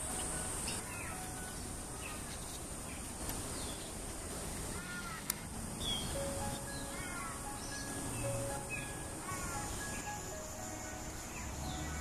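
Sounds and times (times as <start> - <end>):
birds chirping and whistling: 0.0 - 3.9, 5.8 - 12.0
outdoor background noise: 0.0 - 12.0.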